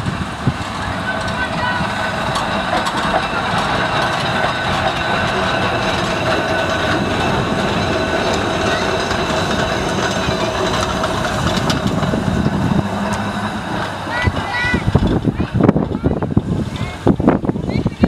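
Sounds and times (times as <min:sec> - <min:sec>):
steady high whine: 0:00.0 - 0:17.6
tram wheels rumbling over rails: 0:00.0 - 0:18.0.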